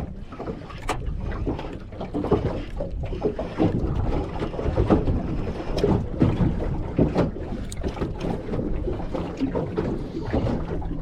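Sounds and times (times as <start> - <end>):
water slapping against boat hull: 0.0 - 11.0
wind buffeting microphone: 0.0 - 11.0.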